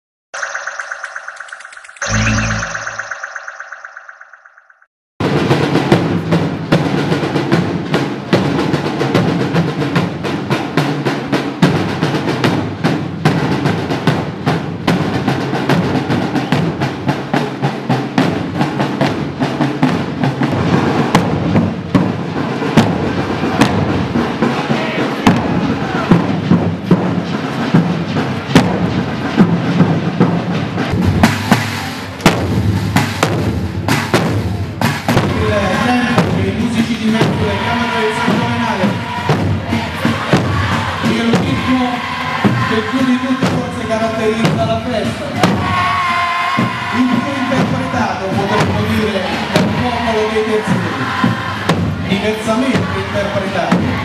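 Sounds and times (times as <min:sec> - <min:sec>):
field drums beating: 0:05.2 - 0:54.0.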